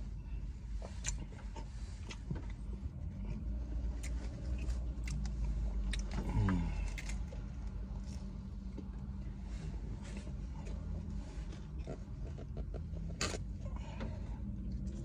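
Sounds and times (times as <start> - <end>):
car cabin low hum: 0.0 - 15.0.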